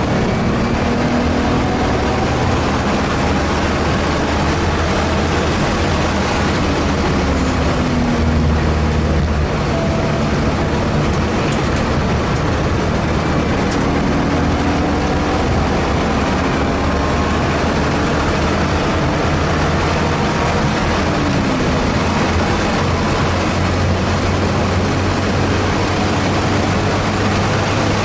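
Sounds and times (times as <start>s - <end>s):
car engine droning: 0.0s - 28.0s
road and wind noise: 0.0s - 28.0s.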